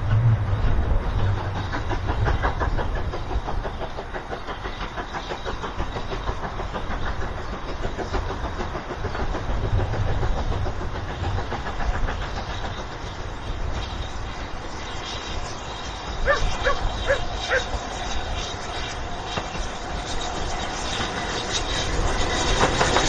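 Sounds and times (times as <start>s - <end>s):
low train rumble: 0.0s - 23.0s
train wheels clattering over rails: 0.0s - 23.0s.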